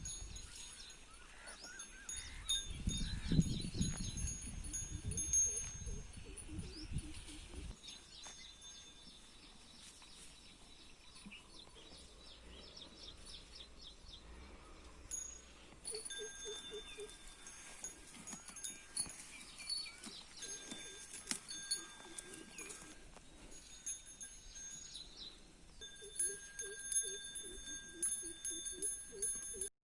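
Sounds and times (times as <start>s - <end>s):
bell-like ringing tones: 0.0s - 9.5s, 14.7s - 29.7s
birds chirping: 0.0s - 17.7s, 18.3s - 29.7s.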